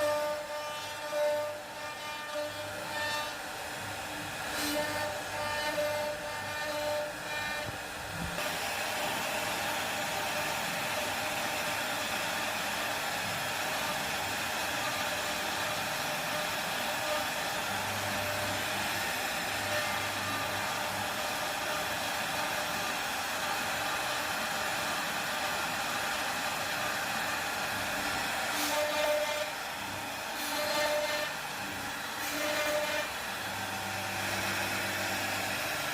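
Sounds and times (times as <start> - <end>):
machine noise like rushing air: 0.0 - 35.9.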